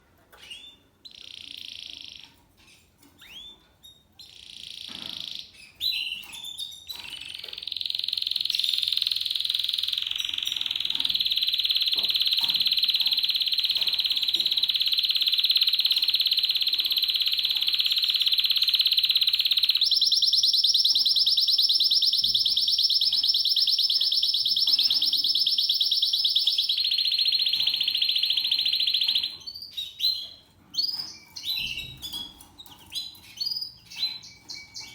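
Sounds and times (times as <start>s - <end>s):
canary singing trills: 0.3s - 34.9s.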